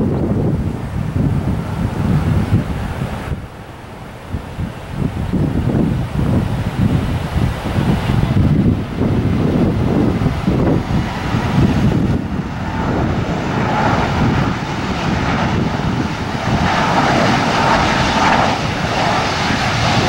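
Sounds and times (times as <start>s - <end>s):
jet engines whining: 0.0s - 20.0s
wind rumble on microphone: 0.0s - 20.0s.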